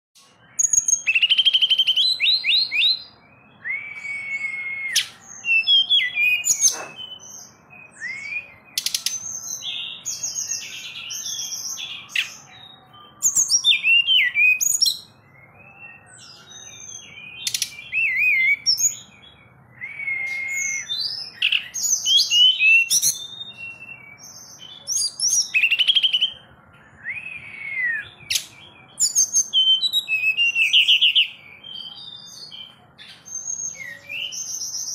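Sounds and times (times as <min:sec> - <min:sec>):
bird whistling song: 0:00.2 - 0:34.9.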